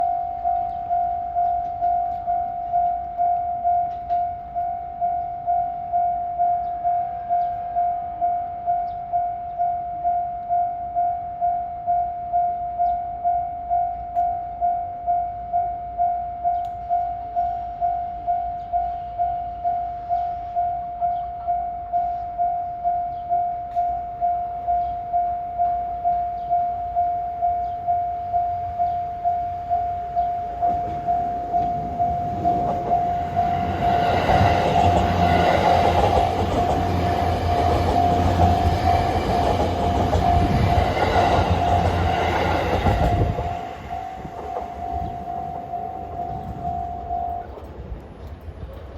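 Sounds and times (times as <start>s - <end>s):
level-crossing warning bell: 0.0s - 48.9s.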